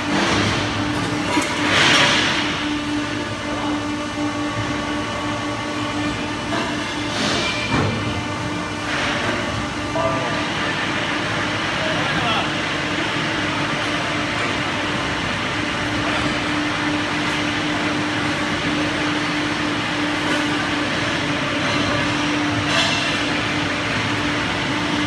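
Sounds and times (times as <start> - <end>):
pipe bending machine humming: 0.0 - 25.0
workshop machine noise: 0.0 - 25.0.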